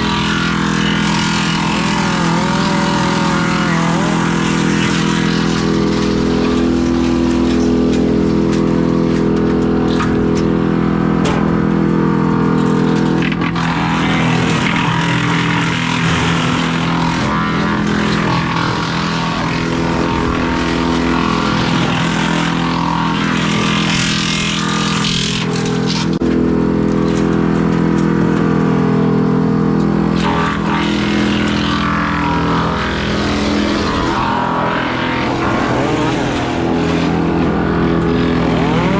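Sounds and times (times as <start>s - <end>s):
large engine running under load: 0.0s - 38.9s.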